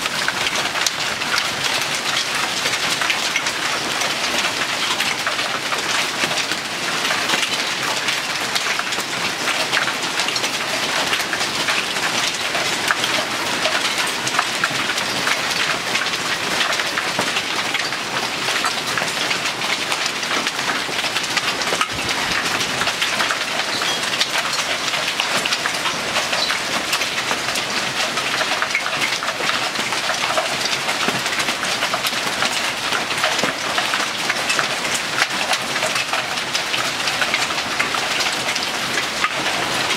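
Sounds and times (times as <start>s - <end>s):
hail clattering: 0.0s - 39.9s
rain: 0.0s - 39.9s.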